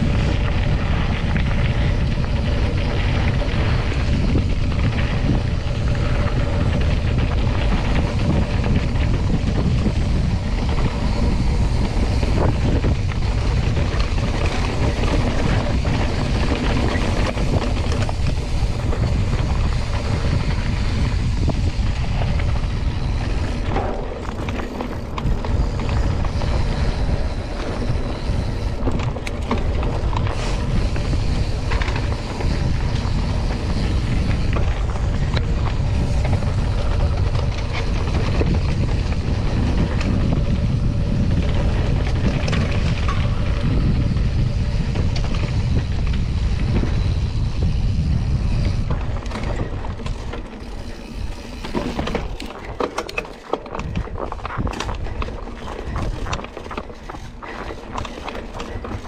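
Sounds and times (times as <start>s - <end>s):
bike clicks and rattles: 0.0s - 59.0s
wind and tyre noise: 0.0s - 59.0s.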